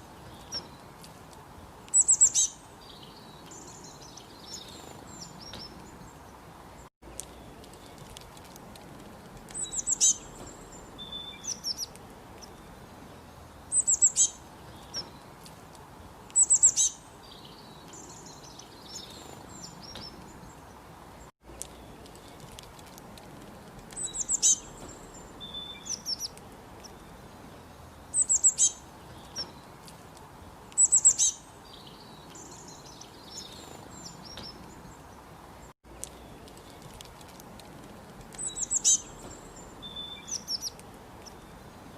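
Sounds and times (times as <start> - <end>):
songbird chirping: 0.0 - 41.9.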